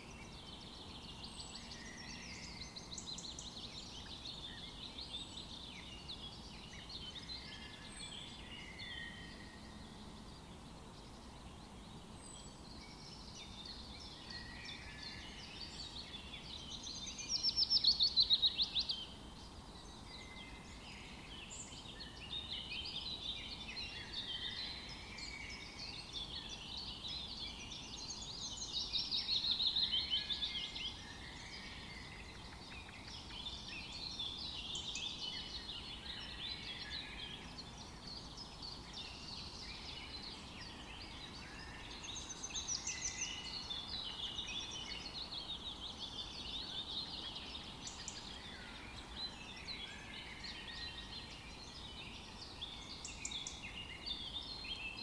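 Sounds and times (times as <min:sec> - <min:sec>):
soft background hiss: 0:00.0 - 0:55.0
songbirds chirping and trilling: 0:00.0 - 0:55.0.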